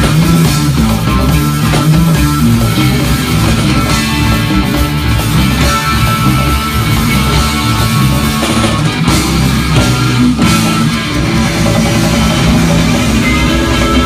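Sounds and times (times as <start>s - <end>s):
bass guitar: 0.0s - 14.0s
electric guitar: 0.0s - 14.0s.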